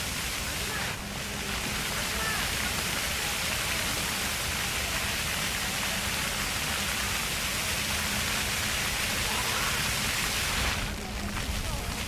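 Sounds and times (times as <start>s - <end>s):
fountain jets splashing on paving: 0.0s - 12.0s.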